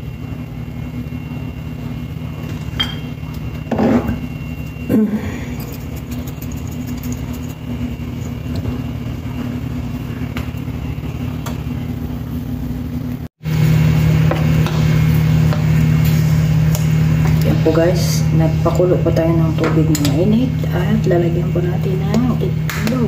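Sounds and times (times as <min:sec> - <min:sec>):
laundry machine humming: 0:00.0 - 0:23.0.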